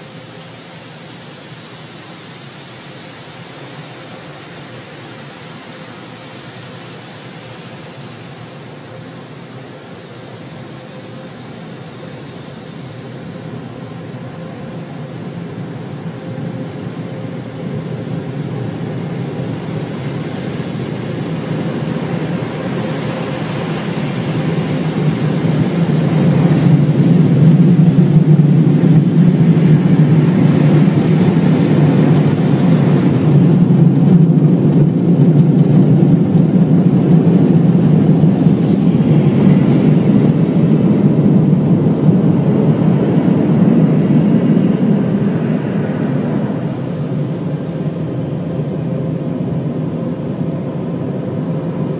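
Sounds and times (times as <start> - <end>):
car wash machinery rushing: 0.0 - 51.9.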